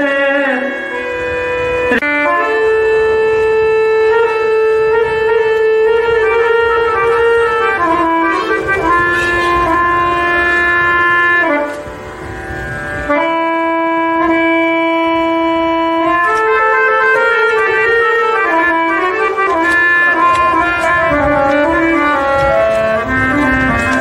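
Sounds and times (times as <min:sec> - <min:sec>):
harmonium holding notes and chords: 0:00.0 - 0:24.0
tabla: 0:00.0 - 0:24.0.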